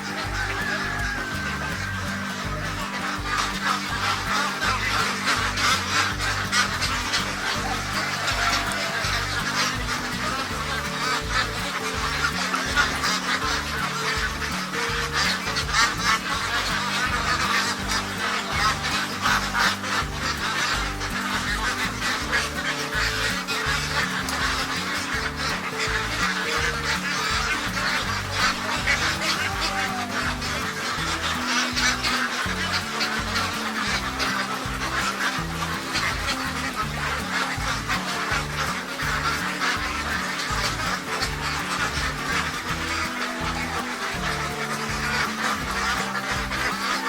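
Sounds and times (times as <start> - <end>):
flock of ducks quacking: 0.0 - 47.0
music with held bass notes: 0.0 - 47.0.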